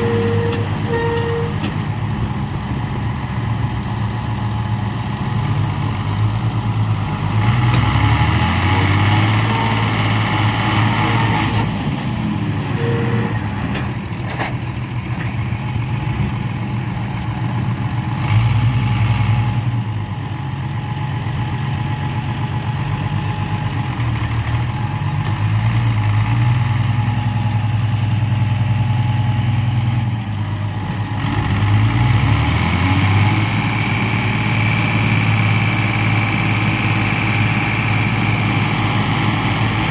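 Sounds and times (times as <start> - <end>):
tractor diesel engines revving: 0.0 - 39.9.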